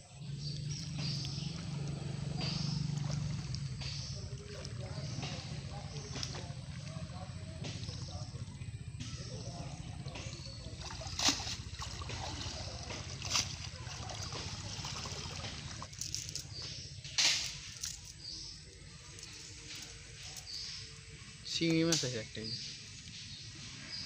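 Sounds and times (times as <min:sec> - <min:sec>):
steady low rumble: 0:00.0 - 0:21.5
water sloshing and splashing: 0:00.5 - 0:21.2.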